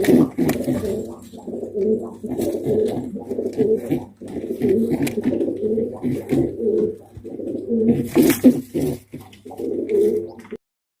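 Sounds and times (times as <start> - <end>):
pigeons cooing: 0.0 - 10.6.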